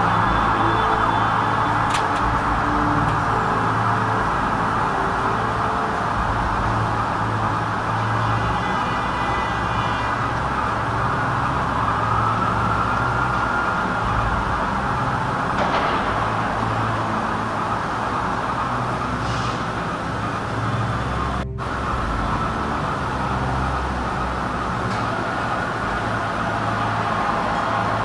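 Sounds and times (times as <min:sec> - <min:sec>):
city traffic hum: 0:00.0 - 0:28.0.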